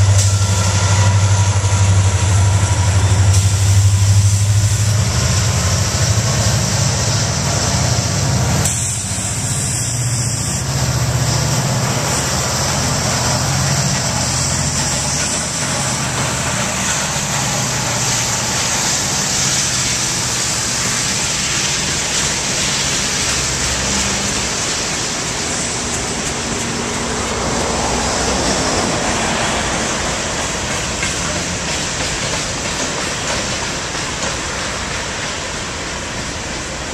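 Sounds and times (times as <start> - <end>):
freight cars rumbling on rails: 0.0 - 36.9
locomotive engine drone: 0.0 - 36.9.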